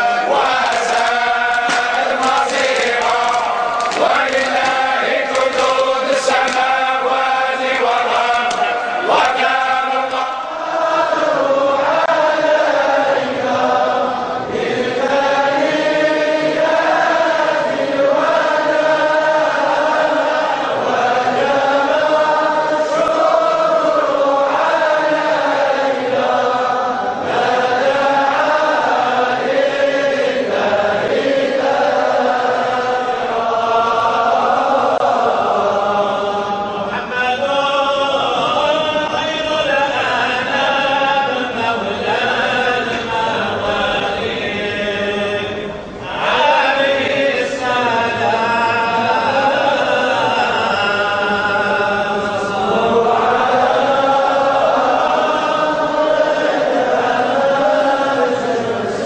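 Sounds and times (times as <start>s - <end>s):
men chanting in unison: 0.0s - 59.0s.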